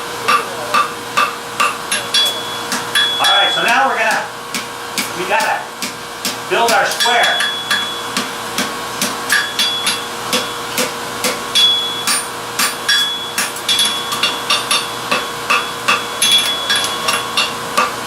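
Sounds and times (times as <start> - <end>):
hammer striking steel on anvil: 0.2 - 18.0
anvil ringing: 0.3 - 4.3, 6.6 - 18.0.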